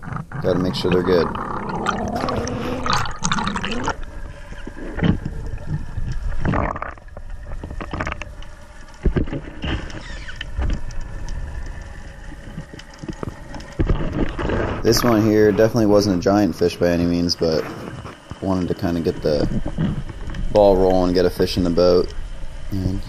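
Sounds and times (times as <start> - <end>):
muffled underwater rushing: 0.0 - 23.0.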